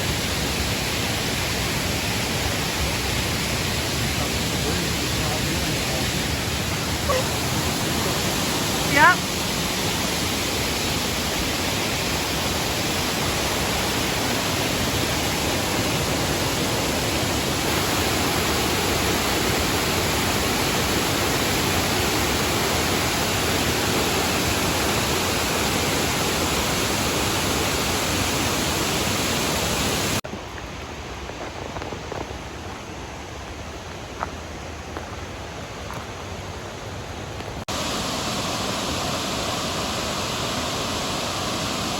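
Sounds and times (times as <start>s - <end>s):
waterfall rushing: 0.0s - 30.2s, 36.8s - 41.9s.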